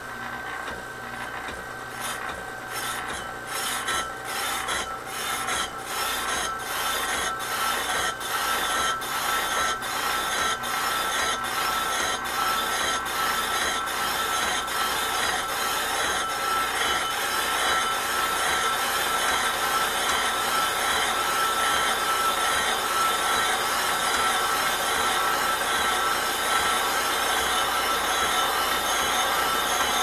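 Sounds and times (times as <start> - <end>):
brake lathe screeching on rotor: 1.9 - 30.0.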